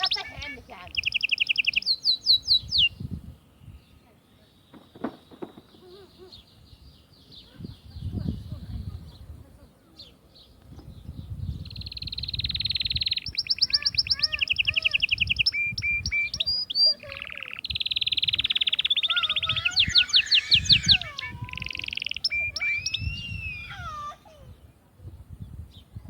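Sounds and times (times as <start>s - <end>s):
canary singing trills: 0.0s - 24.7s.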